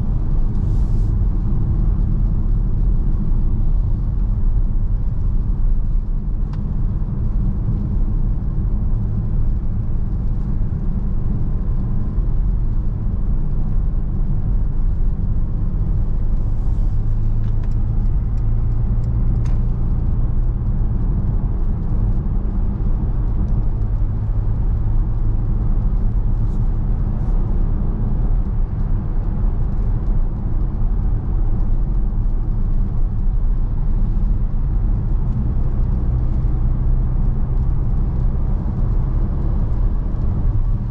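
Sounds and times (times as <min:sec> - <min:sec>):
diesel engine drone: 0:00.0 - 0:40.9
road and tyre rumble: 0:00.0 - 0:40.9.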